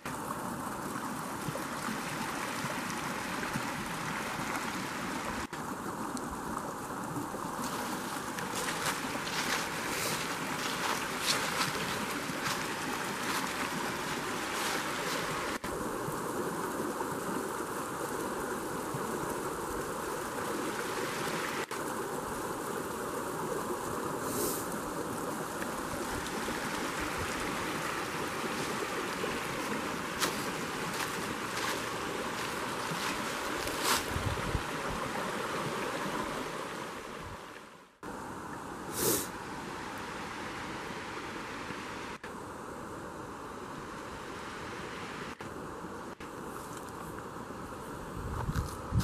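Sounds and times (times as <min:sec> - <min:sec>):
brook running over rocks: 0:00.0 - 0:38.8, 0:44.0 - 0:49.0.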